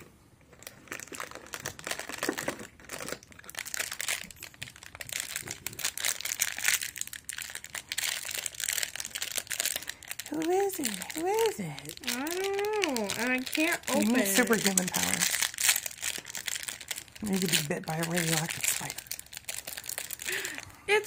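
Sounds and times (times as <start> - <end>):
cardboard and wrapping crinkling: 0.5 - 21.0.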